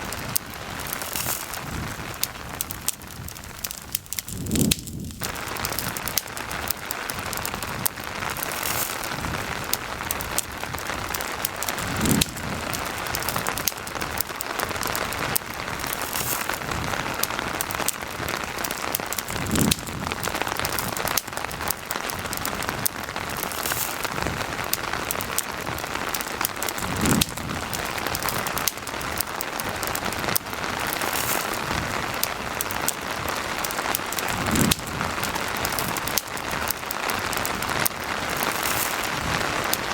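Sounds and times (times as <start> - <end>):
campfire crackling: 0.0 - 39.9
steady rain falling: 0.0 - 39.9.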